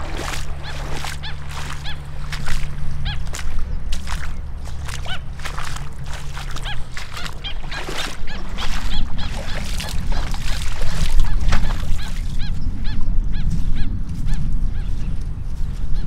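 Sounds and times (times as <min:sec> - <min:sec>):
birds calling: 0:00.0 - 0:16.0
footsteps in gumboots: 0:00.0 - 0:16.0.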